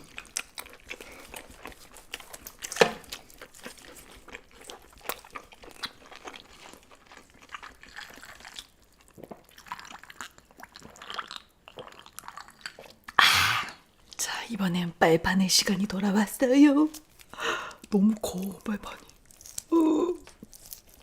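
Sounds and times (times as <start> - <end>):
wet chewing and crunching: 0.0 - 14.2, 16.8 - 21.0.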